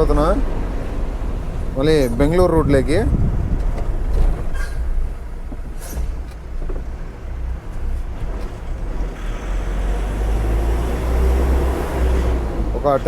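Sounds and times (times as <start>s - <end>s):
truck diesel engine rumbling: 0.0s - 13.0s.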